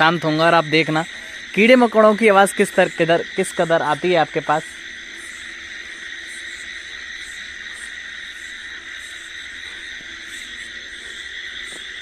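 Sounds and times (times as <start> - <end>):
crickets trilling: 0.0 - 12.0
frogs croaking faintly: 0.0 - 12.0.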